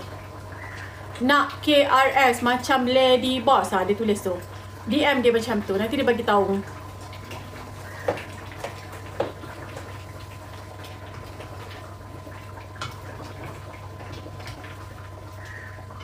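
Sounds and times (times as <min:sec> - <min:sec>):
curry simmering in a pan: 0:00.0 - 0:16.0
steady low hum: 0:00.0 - 0:16.0.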